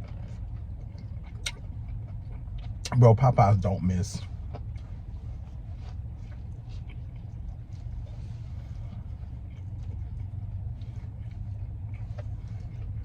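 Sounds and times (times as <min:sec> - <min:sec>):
mouth chewing clicks and smacks: 0:00.0 - 0:03.2, 0:04.2 - 0:13.0
steady low rumble: 0:00.0 - 0:13.0.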